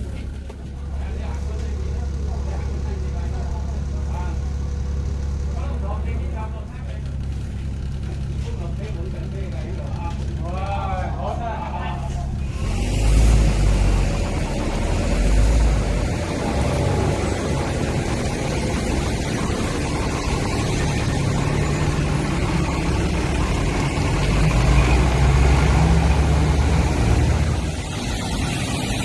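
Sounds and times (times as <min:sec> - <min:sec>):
bus engine rumbling: 0:00.0 - 0:29.0
street traffic: 0:00.0 - 0:29.0.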